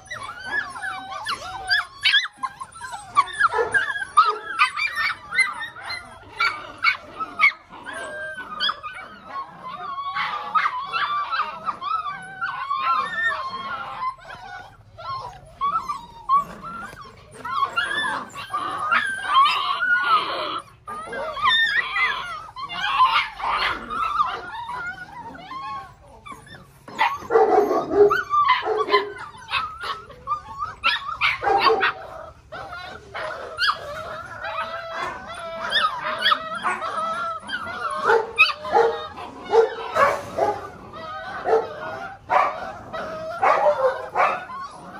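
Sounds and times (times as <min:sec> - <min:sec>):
puppies barking and whining: 0:00.0 - 0:44.9.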